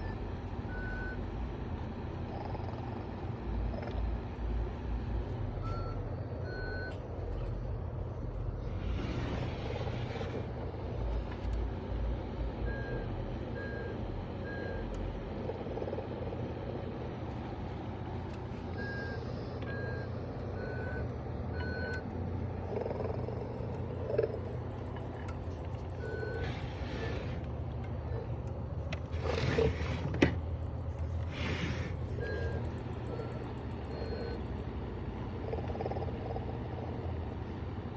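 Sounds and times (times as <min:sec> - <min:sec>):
low motor hum: 0:00.0 - 0:37.9.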